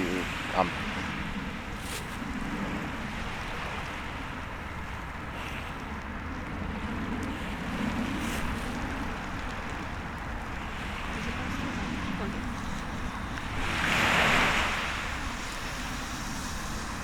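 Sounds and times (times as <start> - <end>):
surf on the shore: 0.0 - 17.0
wind on microphone: 0.0 - 17.0.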